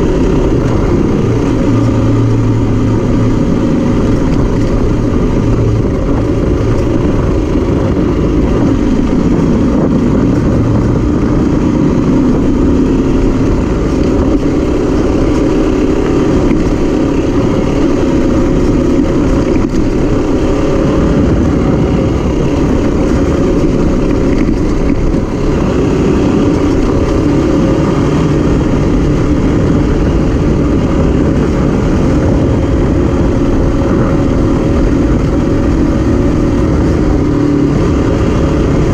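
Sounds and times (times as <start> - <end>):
motorcycle engine running: 0.0 - 38.9
road noise rumble: 0.0 - 38.9.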